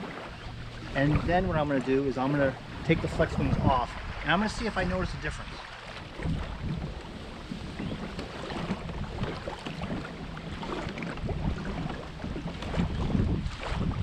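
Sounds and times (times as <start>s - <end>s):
water lapping in shallows: 0.0s - 14.0s
wind gusting on microphone: 0.0s - 14.0s.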